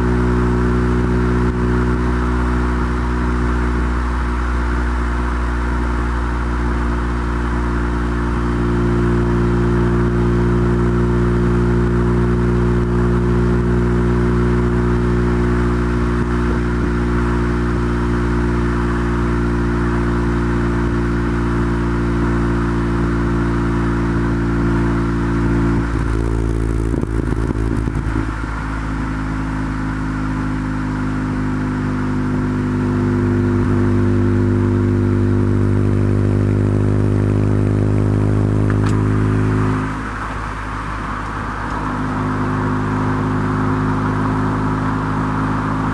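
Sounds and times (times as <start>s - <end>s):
car engine running steadily: 0.0s - 45.9s.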